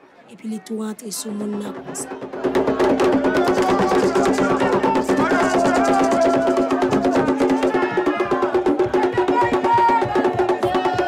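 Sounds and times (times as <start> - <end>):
voices singing: 0.4 - 11.0
sharp clacking percussion: 0.8 - 11.0
hand drums beating: 1.2 - 11.0.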